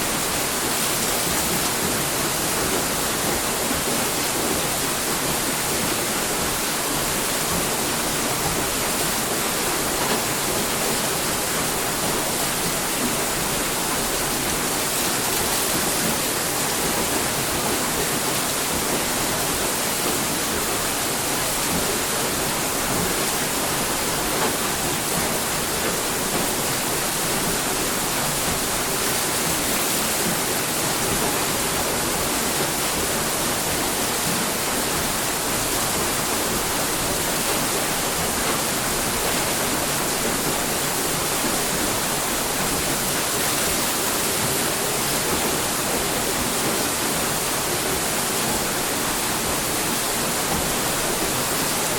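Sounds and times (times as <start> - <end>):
water rushing at a water mill: 0.0 - 51.9.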